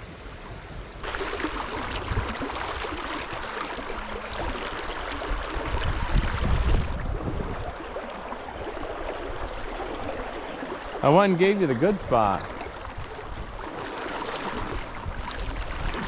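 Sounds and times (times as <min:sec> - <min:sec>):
river rushing over gravel: 0:01.0 - 0:16.0.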